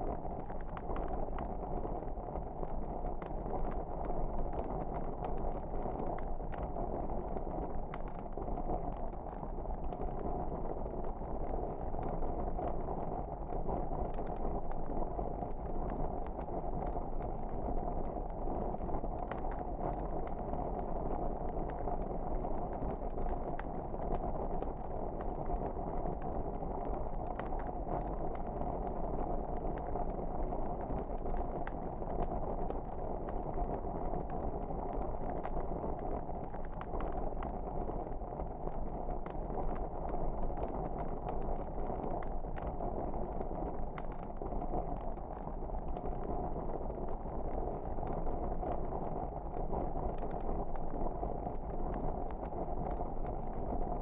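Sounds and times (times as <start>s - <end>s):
wood fire crackling: 0.1s - 53.8s.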